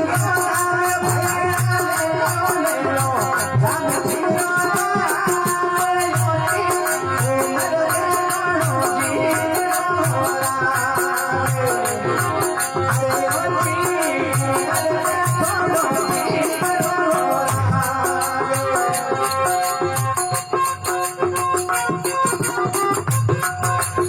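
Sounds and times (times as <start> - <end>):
jingling percussion: 0.0 - 24.0.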